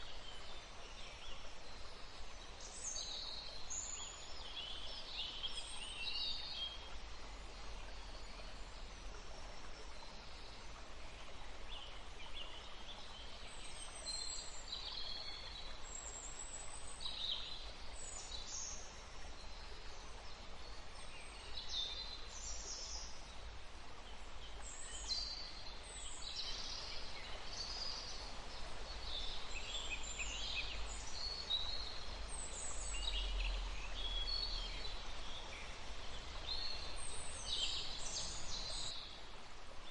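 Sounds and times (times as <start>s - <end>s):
songbirds chirping: 0.0s - 39.9s
stream flowing: 0.0s - 39.9s.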